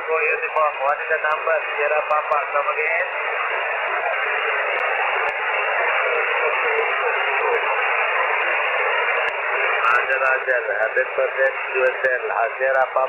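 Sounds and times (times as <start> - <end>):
radio receiver hiss: 0.0 - 13.0.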